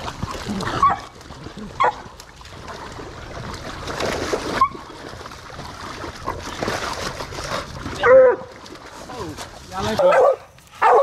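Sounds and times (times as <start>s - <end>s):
splashing in muddy water: 0.0s - 11.0s.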